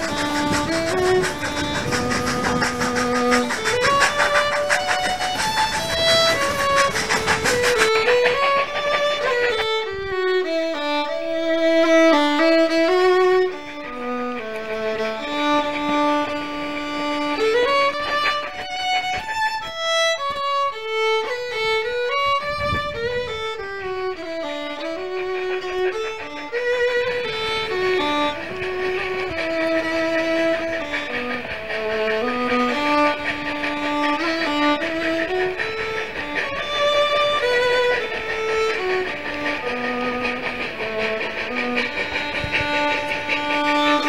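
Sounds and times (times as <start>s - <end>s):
fiddle melody: 0.0s - 44.0s.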